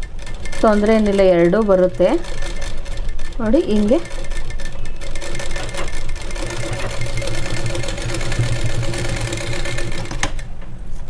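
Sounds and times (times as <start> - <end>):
sewing machine running: 0.0 - 10.5.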